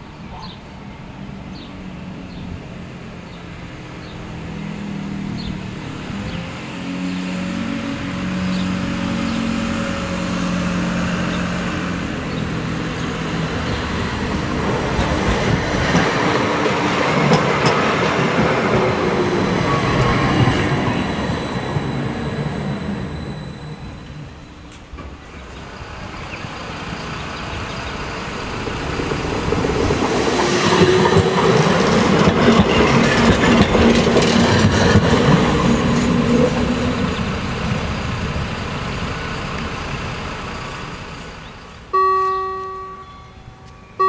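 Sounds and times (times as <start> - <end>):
tram motor hum: 0.0 - 44.0
tram wheels rumbling on rails: 0.0 - 44.0.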